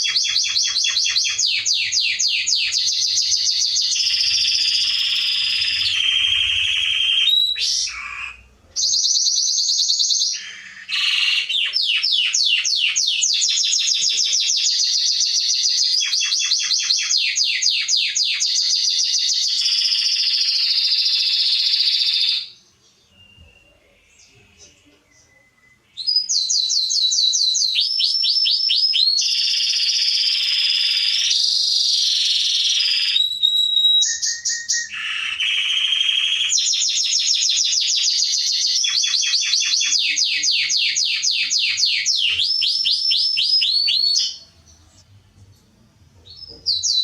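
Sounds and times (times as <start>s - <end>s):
canary singing trills: 0.0s - 45.1s, 46.2s - 47.0s.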